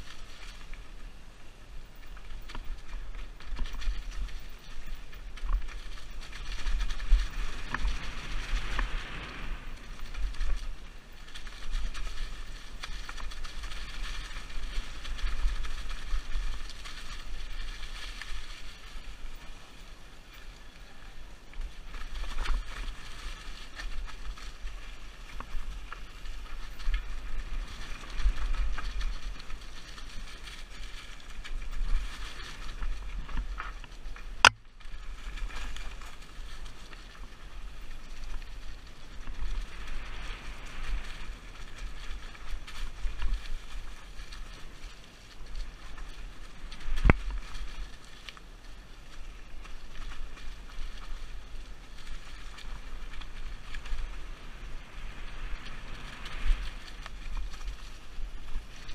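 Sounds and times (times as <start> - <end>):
bike tyres rattling on trail: 0.0 - 58.9
wind rumbling on microphone: 0.0 - 58.9.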